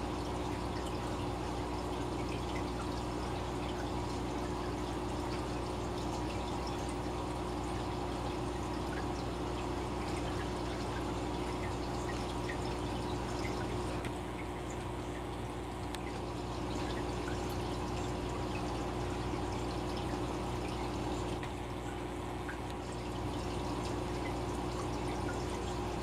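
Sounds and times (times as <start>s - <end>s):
aquarium water bubbling: 0.0s - 26.0s.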